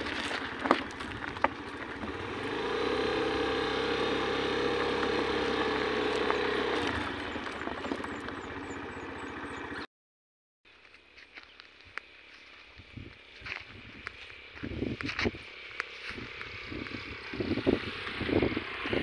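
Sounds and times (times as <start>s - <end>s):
motorcycle engine running: 0.0s - 9.9s, 12.3s - 19.0s.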